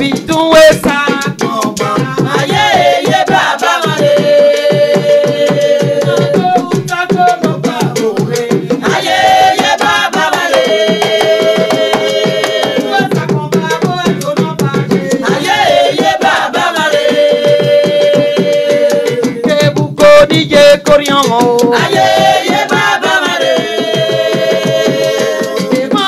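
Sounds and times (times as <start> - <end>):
fast hand-drumming: 0.0 - 26.0.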